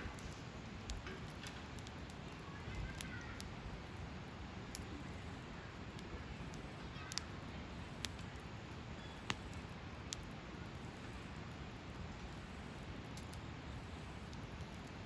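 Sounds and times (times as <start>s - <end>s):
campfire crackling pops: 0.0s - 15.0s
campfire hissing: 0.0s - 15.0s.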